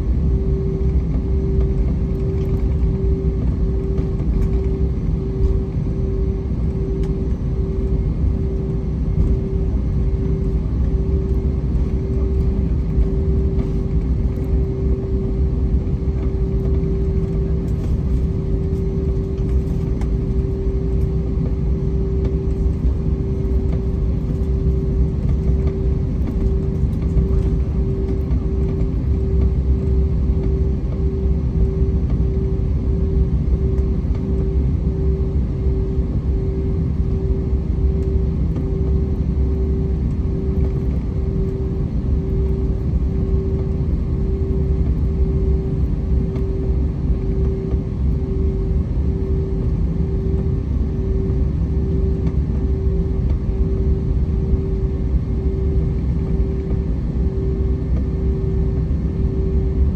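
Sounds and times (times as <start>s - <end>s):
jet engines rumbling in cabin: 0.0s - 59.9s
throbbing hum: 0.0s - 59.9s.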